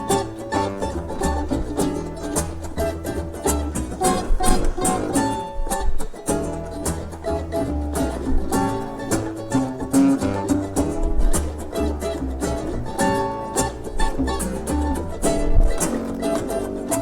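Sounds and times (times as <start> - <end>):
acoustic string band playing: 0.0 - 17.0.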